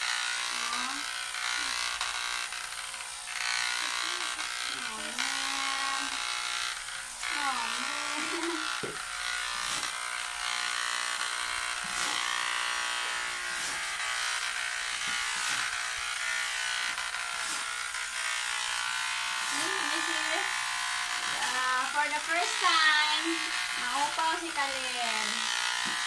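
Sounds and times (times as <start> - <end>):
electric hair clippers buzzing: 0.0 - 26.0.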